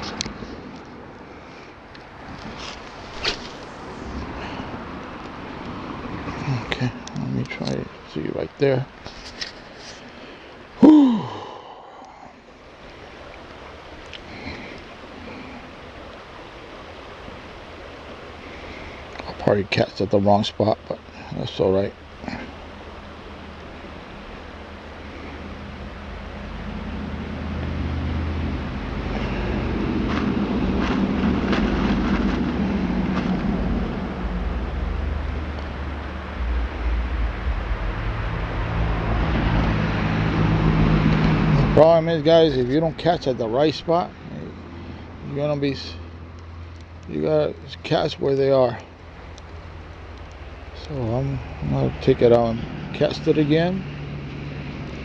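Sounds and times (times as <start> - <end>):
rushing outdoor background noise: 0.0 - 55.0
low engine rumble: 9.6 - 55.0.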